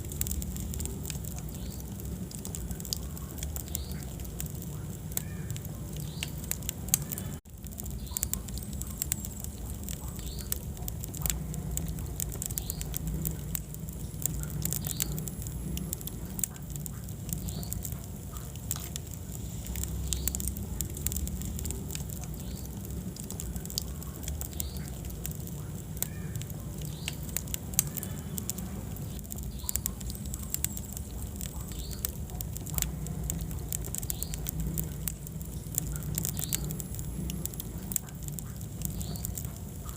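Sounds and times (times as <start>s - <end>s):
fire rumbling in fireplace: 0.0s - 39.9s
wood fire crackling and popping: 0.0s - 39.9s.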